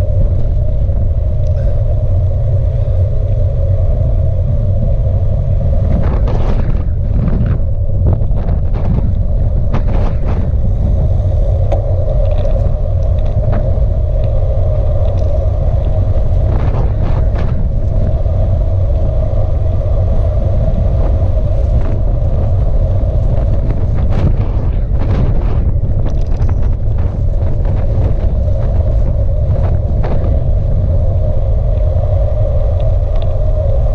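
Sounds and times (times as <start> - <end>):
tyre road hum: 0.0 - 33.9
wind buffeting microphone: 0.0 - 33.9.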